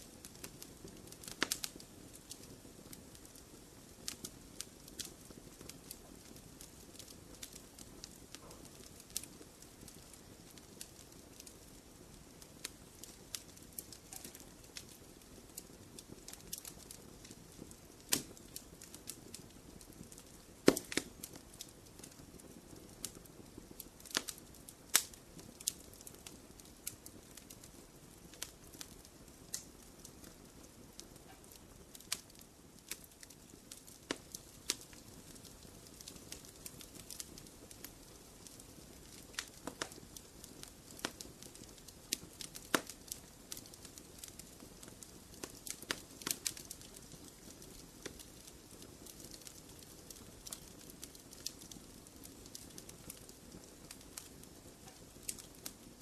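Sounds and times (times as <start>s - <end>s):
low rush of flames: 0.0s - 56.0s
wood fire crackling: 0.0s - 56.0s.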